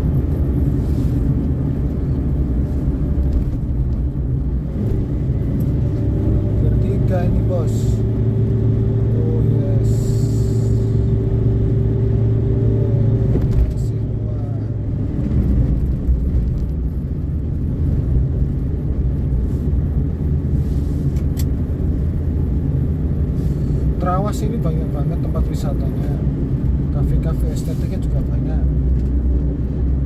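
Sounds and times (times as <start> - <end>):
car engine humming under load: 0.0 - 30.0.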